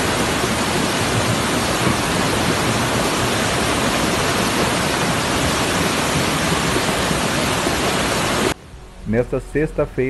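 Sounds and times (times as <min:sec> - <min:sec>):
floodwater rushing: 0:00.0 - 0:08.8.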